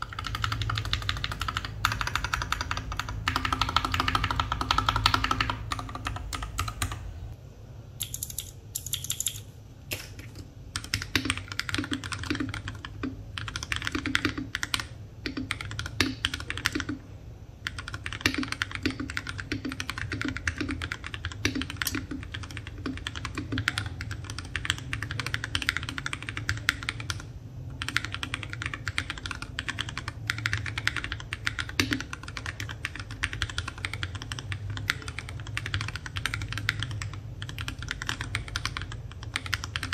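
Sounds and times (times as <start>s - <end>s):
mechanical keyboard typing: 0.0s - 7.2s, 8.0s - 39.9s.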